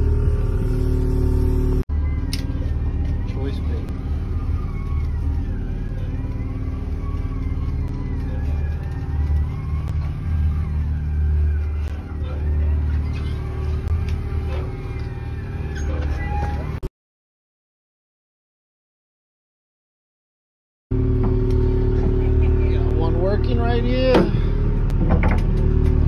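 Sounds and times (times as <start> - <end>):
boat diesel engine rumble: 0.0 - 16.8, 21.0 - 26.0.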